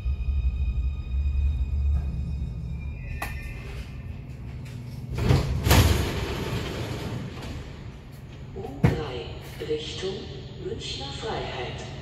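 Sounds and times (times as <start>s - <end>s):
train humming: 0.0s - 12.0s.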